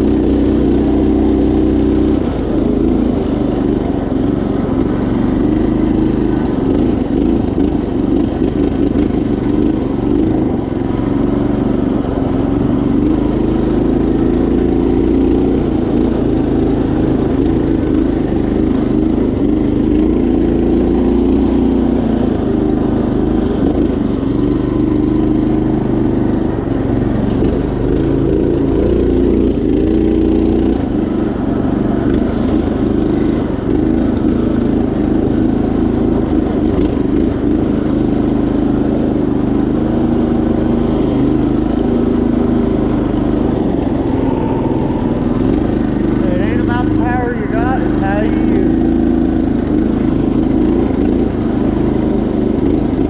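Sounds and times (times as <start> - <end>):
riding mower engine running: 0.0 - 53.0.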